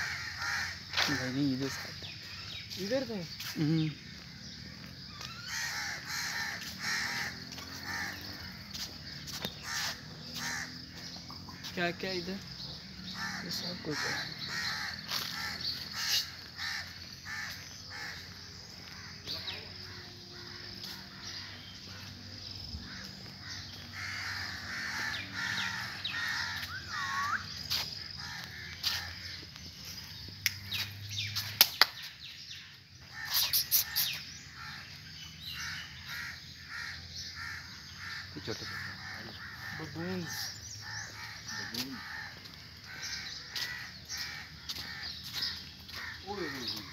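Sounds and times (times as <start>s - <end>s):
crows cawing: 0.0s - 2.6s, 3.4s - 46.9s
birds calling: 0.0s - 46.9s.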